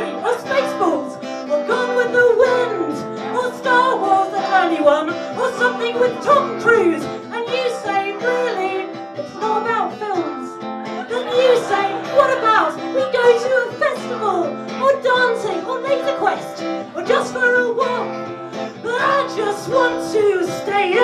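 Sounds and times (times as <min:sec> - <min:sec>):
acoustic guitar: 0:00.0 - 0:21.0
person singing: 0:00.0 - 0:21.0.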